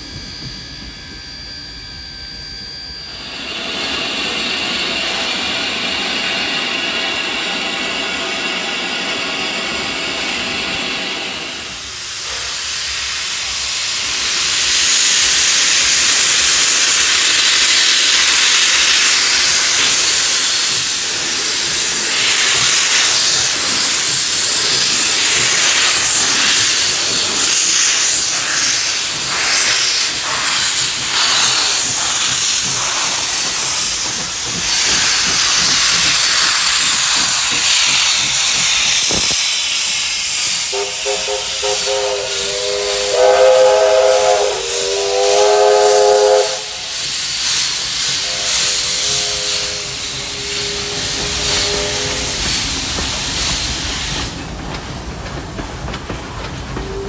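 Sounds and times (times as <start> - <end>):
steam hissing from locomotive: 0.0 - 57.0
steam locomotive beats: 0.0 - 57.0.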